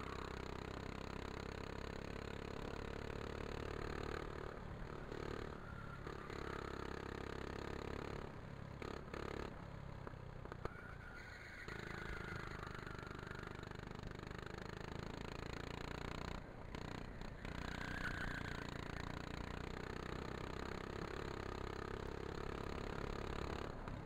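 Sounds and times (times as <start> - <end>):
kart engine: 0.0 - 24.0.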